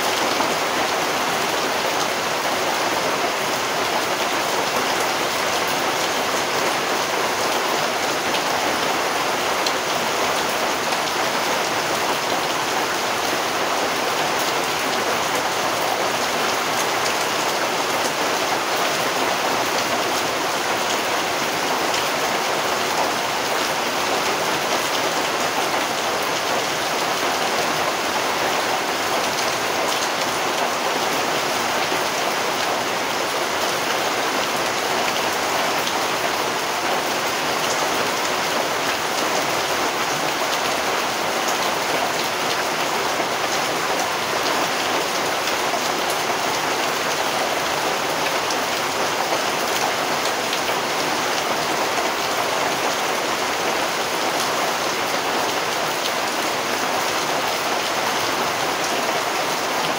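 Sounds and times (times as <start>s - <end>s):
rain falling steadily: 0.0s - 59.9s.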